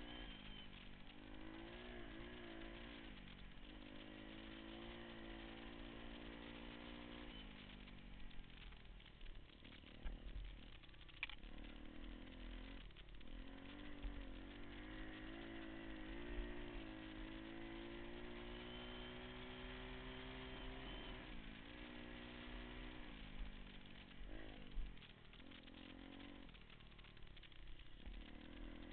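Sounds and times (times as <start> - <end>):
pit bike engine running: 0.0 - 28.9.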